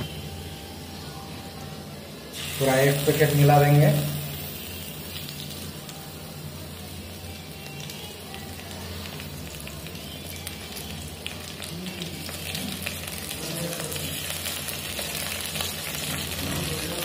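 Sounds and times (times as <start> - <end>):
paste sizzling in hot oil: 2.3 - 17.0.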